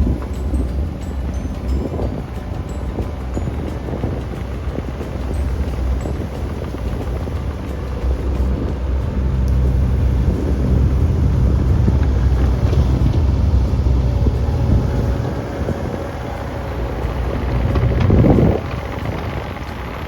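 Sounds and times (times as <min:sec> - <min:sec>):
diesel engine rumbling: 0:00.0 - 0:20.0
thin steady tone: 0:00.0 - 0:20.0.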